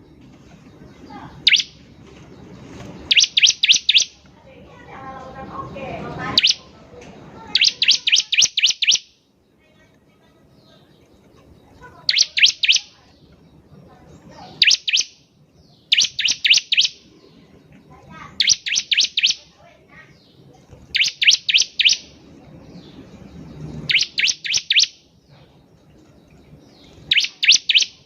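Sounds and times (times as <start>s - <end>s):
bird singing high chirps: 0.0s - 4.3s, 5.3s - 6.7s, 7.3s - 9.3s, 10.5s - 28.0s.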